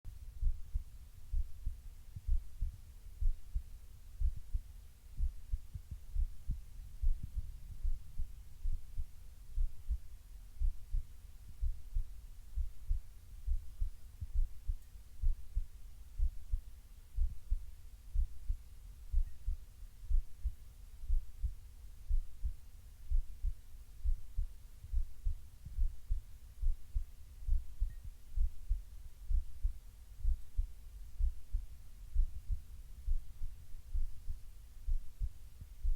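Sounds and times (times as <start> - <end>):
heartbeat low thumps: 0.1 - 35.9.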